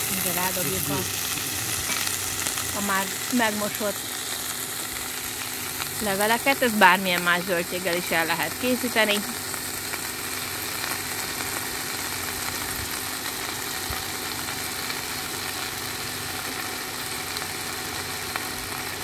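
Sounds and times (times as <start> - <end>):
leaves sizzling in hot oil: 0.0 - 19.0.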